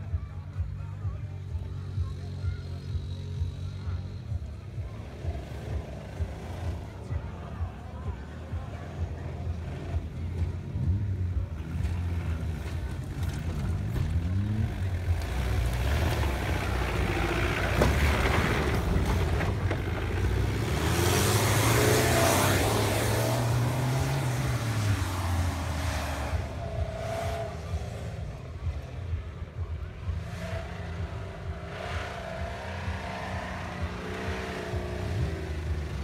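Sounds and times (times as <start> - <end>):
suv engines revving: 0.0 - 36.0.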